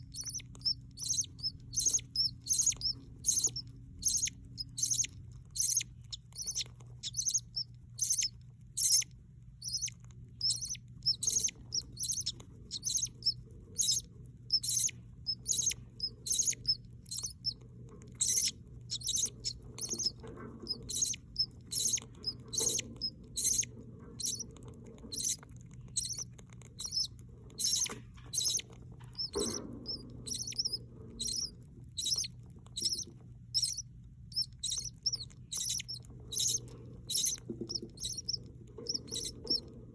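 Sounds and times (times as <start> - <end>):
budgerigars chirping: 0.0 - 17.6, 18.2 - 24.5, 25.1 - 39.7.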